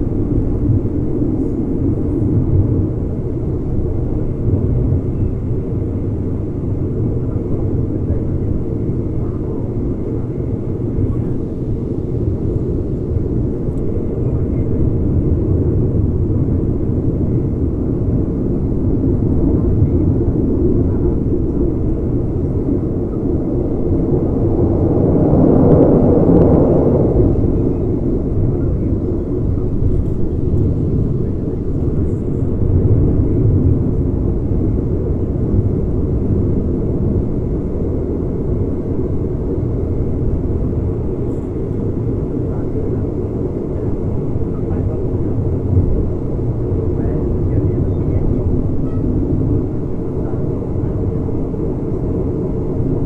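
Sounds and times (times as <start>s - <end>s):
wind rush: 0.0s - 53.0s.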